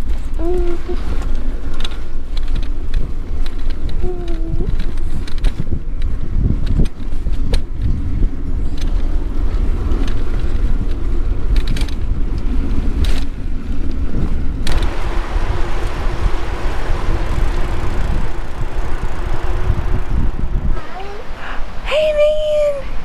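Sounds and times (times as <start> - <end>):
bicycle rattling and creaking: 0.0 - 21.8
wind rumble on microphone: 0.0 - 23.0.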